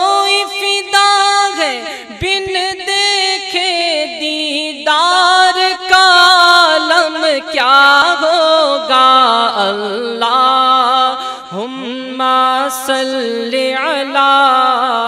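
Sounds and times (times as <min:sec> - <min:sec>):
devotional singing: 0:00.0 - 0:15.0.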